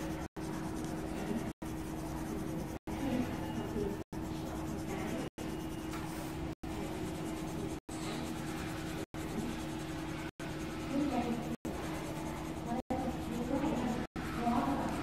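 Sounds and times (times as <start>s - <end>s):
colored pencil scratching on paper: 0.0s - 15.0s
steady low hum: 0.0s - 15.0s.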